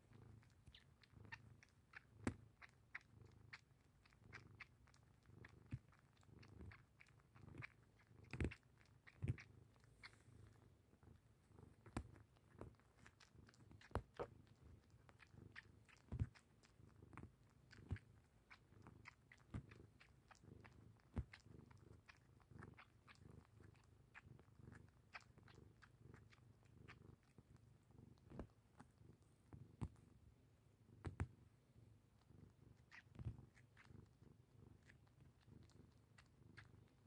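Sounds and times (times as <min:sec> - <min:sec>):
cat suckling on a blanket: 0:00.0 - 0:29.0, 0:32.2 - 0:37.0
faint low rumble: 0:00.0 - 0:37.0.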